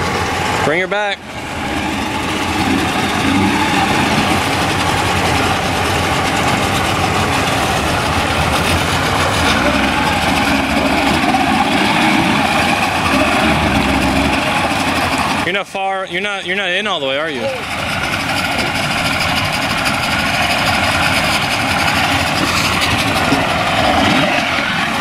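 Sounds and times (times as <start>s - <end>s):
outboard motors running: 0.0s - 25.0s
propeller churning water: 0.0s - 25.0s.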